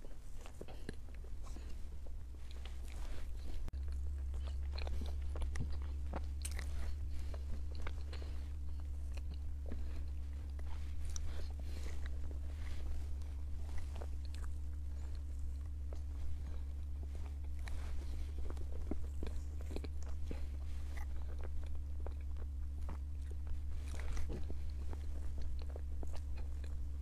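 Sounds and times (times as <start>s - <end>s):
person chewing: 0.0s - 27.0s
steady low hum: 0.0s - 27.0s.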